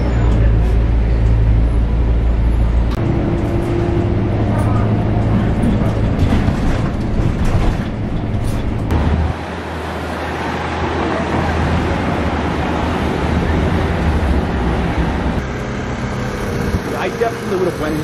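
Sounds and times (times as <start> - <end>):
bus engine hum: 0.0 - 18.0
road noise: 0.0 - 18.0.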